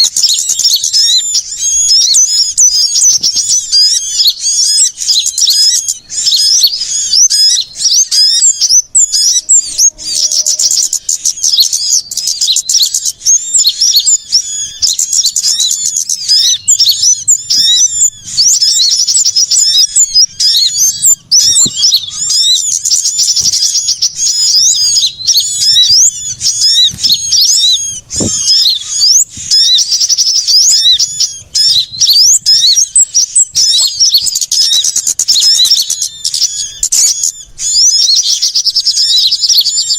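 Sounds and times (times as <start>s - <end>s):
songbirds chattering and twittering: 0.0s - 39.9s.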